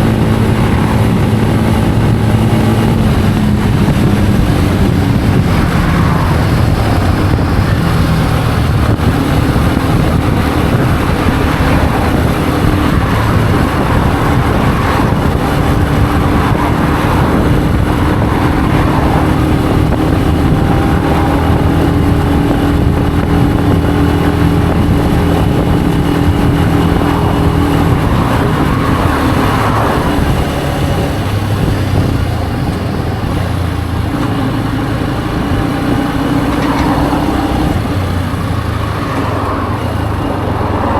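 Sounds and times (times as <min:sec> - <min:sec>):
motorcycle engine running: 0:00.0 - 0:40.9
wind on microphone: 0:00.0 - 0:40.9.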